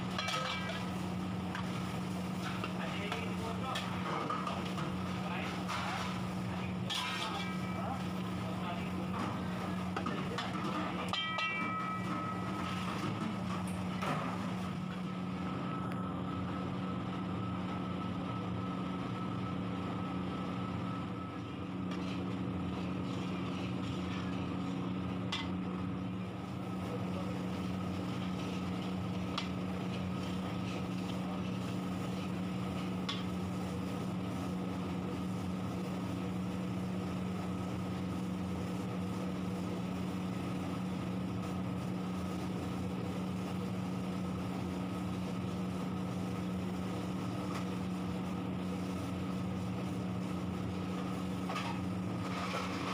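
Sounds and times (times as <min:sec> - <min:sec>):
onions frying in bubbling oil: 0:00.0 - 0:15.7, 0:16.3 - 0:52.9
low machine hum: 0:00.0 - 0:52.9.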